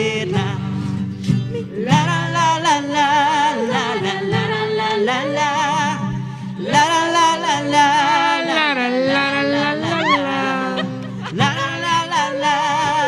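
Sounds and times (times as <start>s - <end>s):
voices singing wordless refrain: 1.5s - 13.0s.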